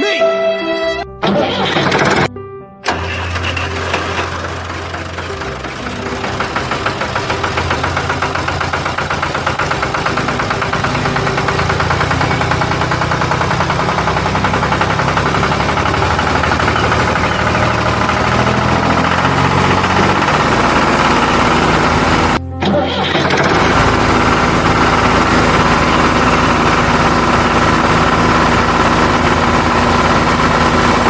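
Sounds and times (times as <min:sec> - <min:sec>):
tractor engine running: 0:01.2 - 0:31.0.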